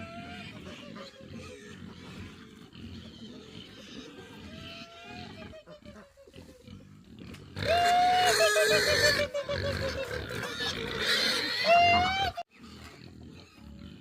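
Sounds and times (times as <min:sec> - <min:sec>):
farm animal calling: 0:00.0 - 0:14.0.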